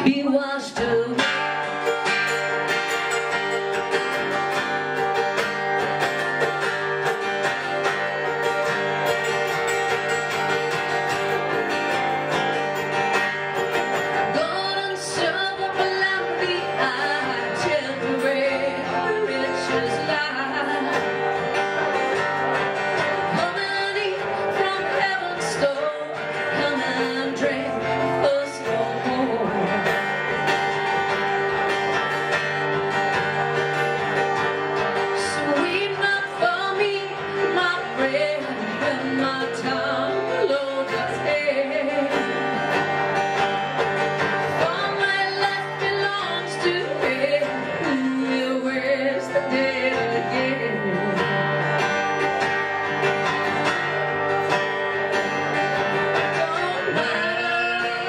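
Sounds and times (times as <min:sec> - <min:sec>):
person singing: 0:00.0 - 0:30.8, 0:34.0 - 0:52.2, 0:54.3 - 0:58.0
strummed acoustic guitars: 0:00.0 - 0:58.0.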